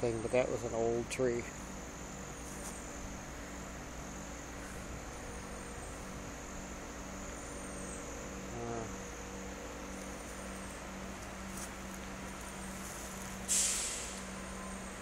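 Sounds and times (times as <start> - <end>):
insects droning: 0.0 - 15.0
low pulsing hum: 0.0 - 15.0.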